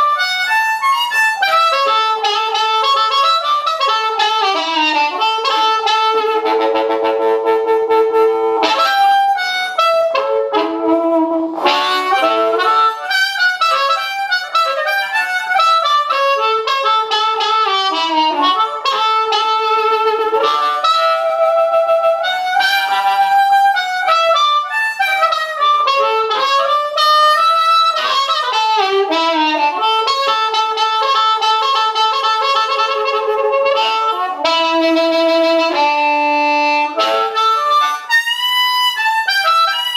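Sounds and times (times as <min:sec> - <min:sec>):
amplified blues harmonica: 0:00.0 - 0:39.9.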